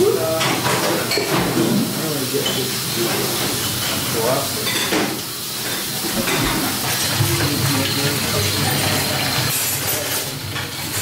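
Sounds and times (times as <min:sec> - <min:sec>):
faucet water running into sink: 0:00.0 - 0:11.0.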